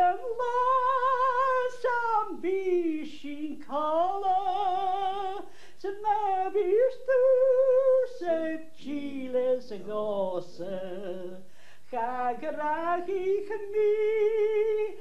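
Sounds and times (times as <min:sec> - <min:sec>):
elderly woman singing unaccompanied: 0:00.0 - 0:15.0.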